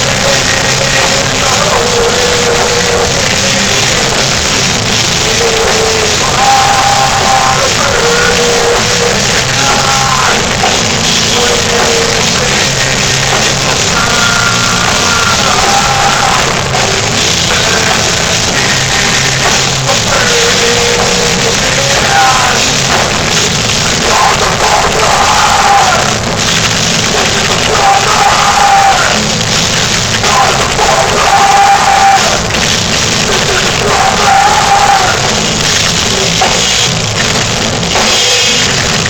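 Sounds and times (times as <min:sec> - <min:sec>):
distorted guitars: 0:00.0 - 0:39.0
drum kit: 0:00.0 - 0:39.0.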